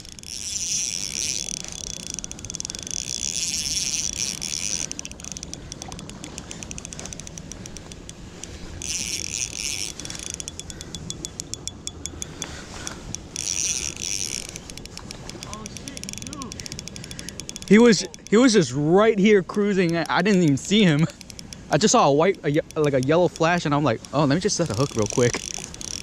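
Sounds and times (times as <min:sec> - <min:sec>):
fishing reel drag buzzing: 0:00.0 - 0:26.0
rapid reel ticking: 0:00.0 - 0:26.0.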